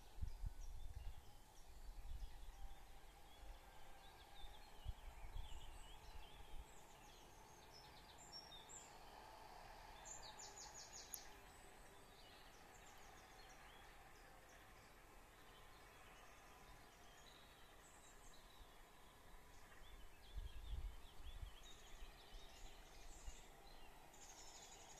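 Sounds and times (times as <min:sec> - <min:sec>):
songbird trills: 0:00.0 - 0:24.9
distant tractor hum: 0:01.1 - 0:24.9.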